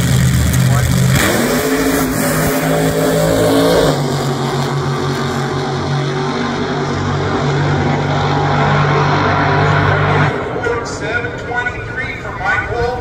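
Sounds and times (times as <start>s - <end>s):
drag racing engines at full throttle: 0.0s - 13.0s.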